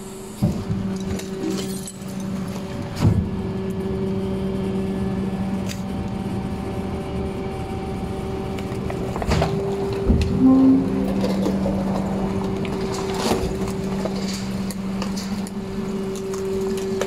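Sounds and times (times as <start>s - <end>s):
garbage truck engine and hydraulics: 0.0s - 17.0s.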